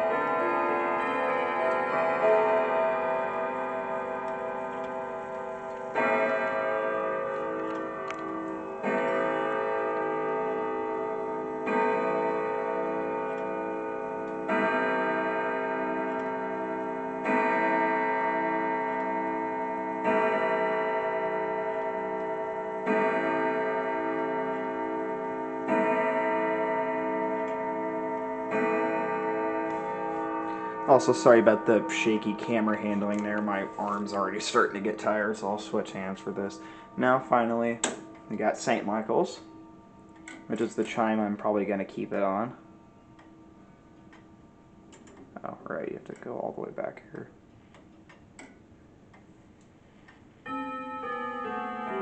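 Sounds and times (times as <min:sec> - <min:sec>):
grandfather clock striking: 0:00.0 - 0:46.9, 0:47.8 - 0:52.0.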